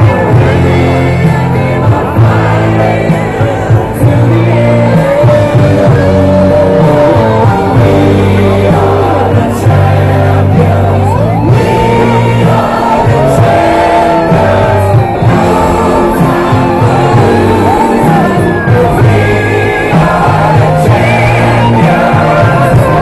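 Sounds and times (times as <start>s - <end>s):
song with singing over bass: 0.0s - 23.0s.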